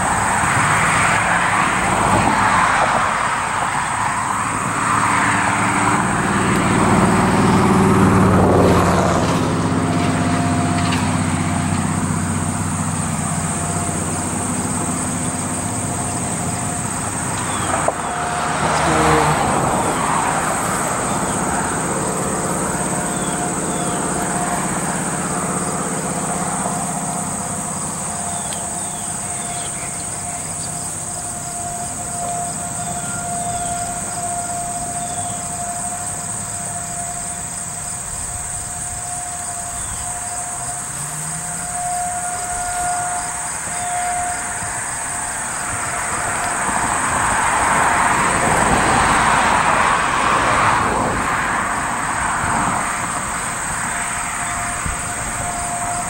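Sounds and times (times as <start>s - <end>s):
engine hum: 0.0s - 56.0s
vehicles passing: 0.0s - 56.0s.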